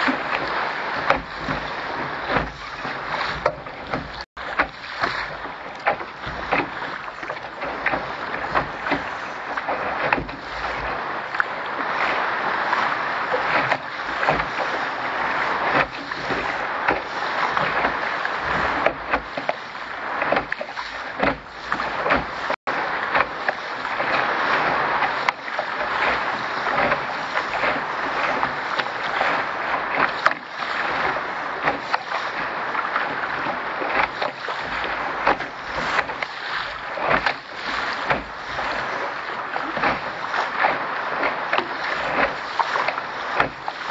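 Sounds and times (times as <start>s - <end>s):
water rushing along hull: 0.0s - 43.9s
waves slapping hull: 0.0s - 43.9s.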